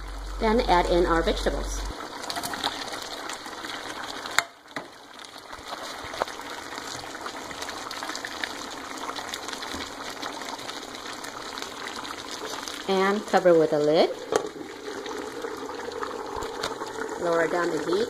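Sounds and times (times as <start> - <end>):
curry simmering and bubbling: 0.0 - 18.0.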